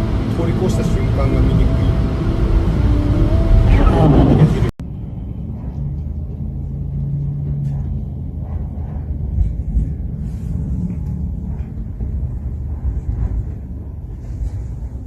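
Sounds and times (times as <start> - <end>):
low steady hum: 0.0 - 15.0
vehicle engine rumble: 0.0 - 15.0.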